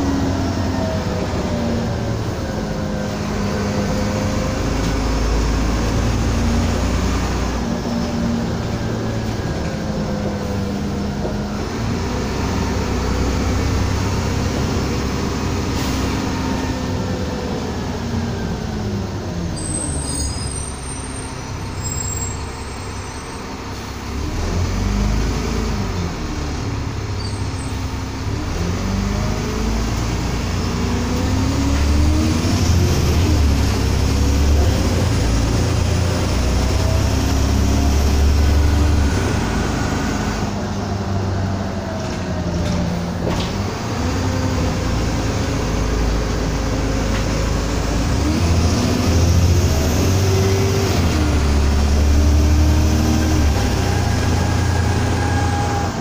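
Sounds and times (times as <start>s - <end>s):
bus diesel engine: 0.0s - 56.0s.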